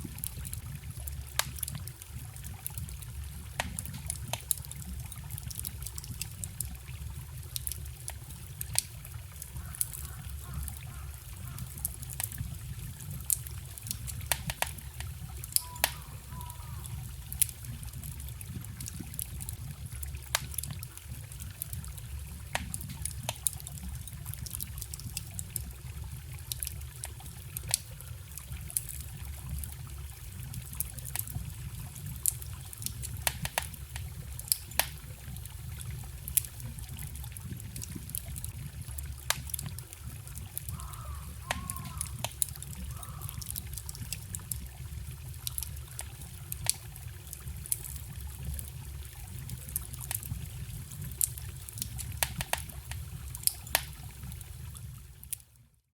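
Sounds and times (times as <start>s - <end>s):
wood fire crackling and popping: 0.0s - 55.5s
trickling forest stream: 0.0s - 55.9s.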